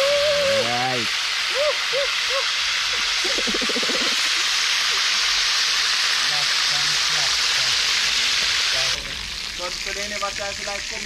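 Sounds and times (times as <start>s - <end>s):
bubbling oil sizzling: 0.0s - 11.0s.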